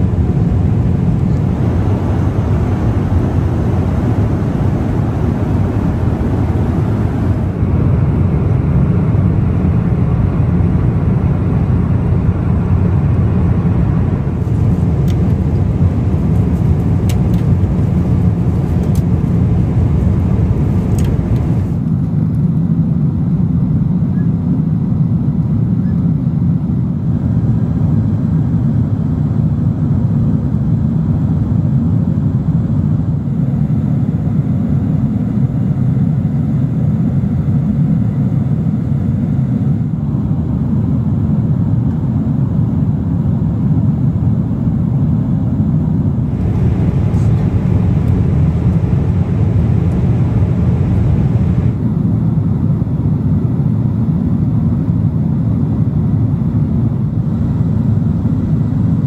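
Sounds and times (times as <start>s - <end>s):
airliner cabin engine rush: 0.0s - 59.0s.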